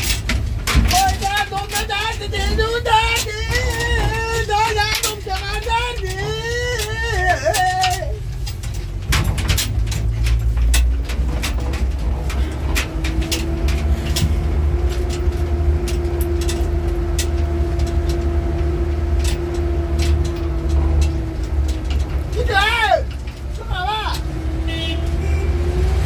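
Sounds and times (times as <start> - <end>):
sharp clicks and knocks: 0.0 - 26.0
vehicle engine low rumble: 0.0 - 26.0.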